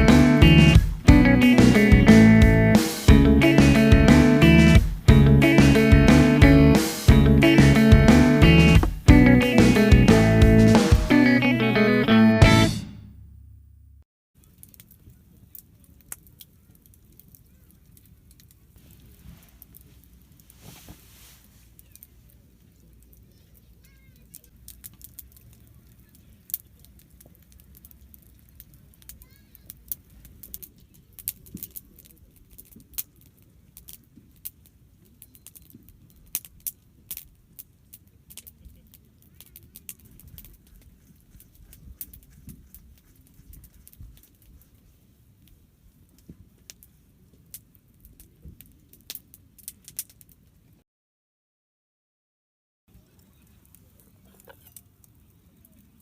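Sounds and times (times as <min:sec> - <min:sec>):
campfire crackling and popping: 0:00.0 - 0:11.4, 0:14.4 - 0:50.7, 0:52.9 - 0:56.0.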